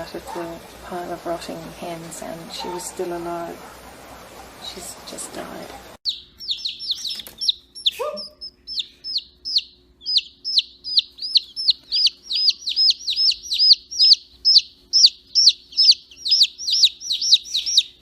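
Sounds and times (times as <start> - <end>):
chick peeping: 0.0 - 18.0.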